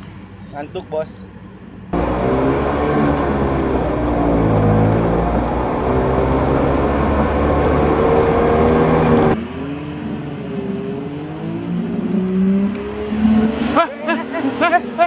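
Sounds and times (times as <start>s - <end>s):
car engine revving: 1.9s - 15.0s
car engine running loud: 1.9s - 15.0s.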